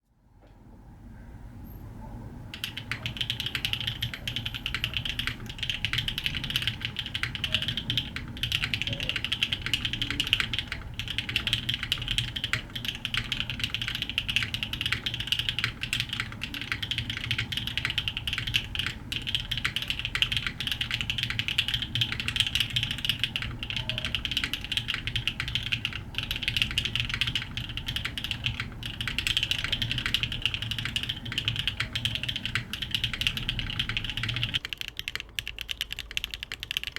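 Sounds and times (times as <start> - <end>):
fast typing on mechanical keyboard: 2.5 - 36.9.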